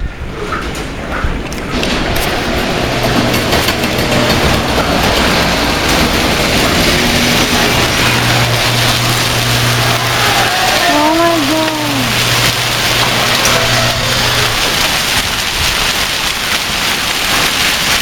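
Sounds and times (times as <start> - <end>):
steady low hum: 0.0 - 17.3
hail and heavy rain clattering: 0.6 - 18.0.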